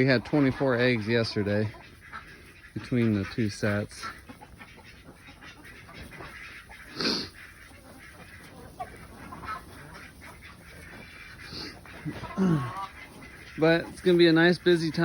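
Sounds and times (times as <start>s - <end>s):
chickens and ducks calling: 0.0s - 15.0s.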